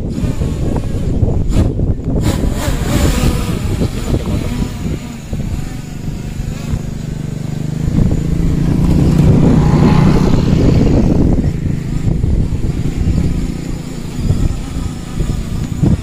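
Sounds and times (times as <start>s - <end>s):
drone motors buzzing: 0.0s - 16.0s.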